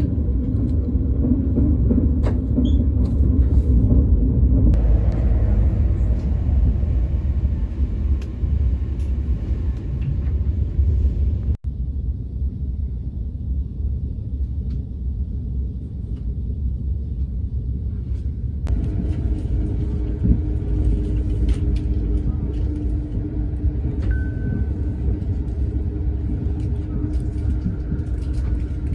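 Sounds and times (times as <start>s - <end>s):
train rumbling inside carriage: 0.0s - 28.9s.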